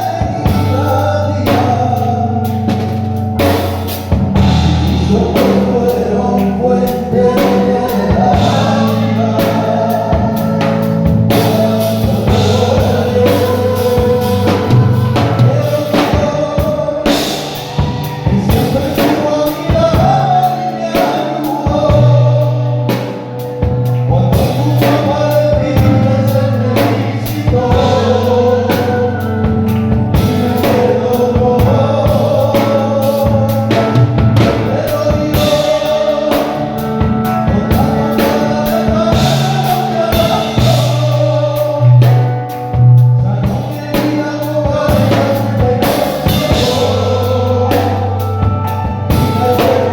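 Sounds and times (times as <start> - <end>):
drum kit: 0.0 - 49.9
singers: 0.0 - 49.9
steady bass notes: 0.0 - 49.9.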